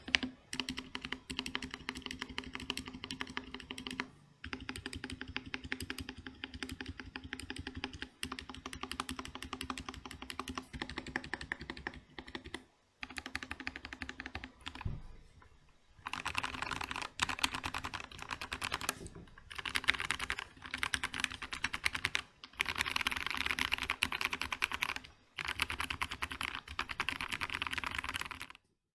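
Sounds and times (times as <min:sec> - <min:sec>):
mechanical keyboard typing: 0:00.0 - 0:14.9, 0:16.0 - 0:28.6.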